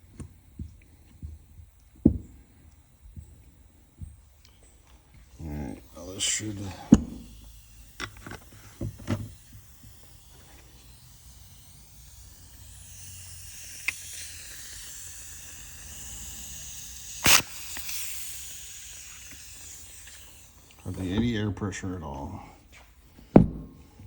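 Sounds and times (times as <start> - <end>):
compressed air hissing from nozzle: 0.0 - 24.0.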